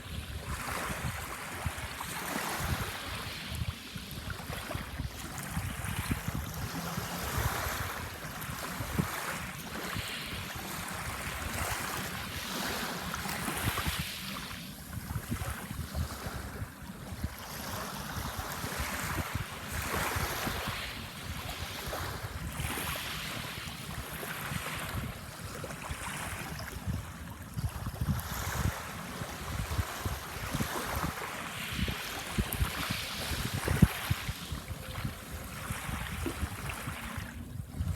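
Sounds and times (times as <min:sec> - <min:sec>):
small waves breaking on shore: 0:00.0 - 0:37.9
wind rumbling on microphone: 0:00.0 - 0:37.9.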